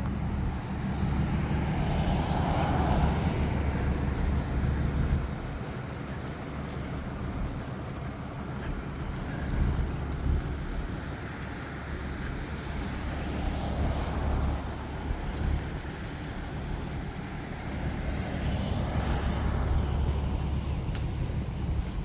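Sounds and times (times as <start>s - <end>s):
car engine idling: 0.0s - 22.0s
road traffic noise: 0.0s - 22.0s.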